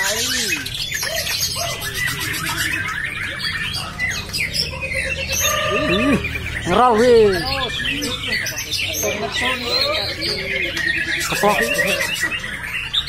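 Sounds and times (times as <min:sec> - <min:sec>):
shama bird singing: 0:00.0 - 0:13.0
songbirds singing: 0:00.0 - 0:13.0.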